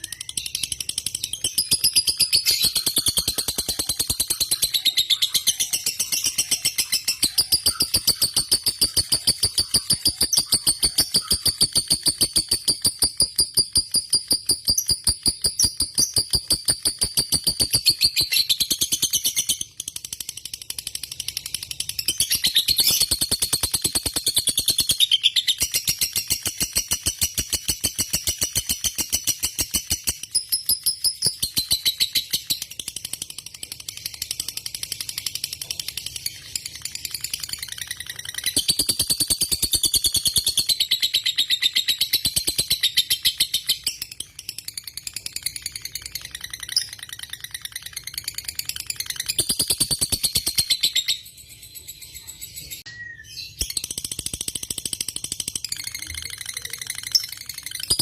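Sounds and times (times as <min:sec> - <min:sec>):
lovebird chattering chirps: 0:00.0 - 0:20.3, 0:21.2 - 0:58.0.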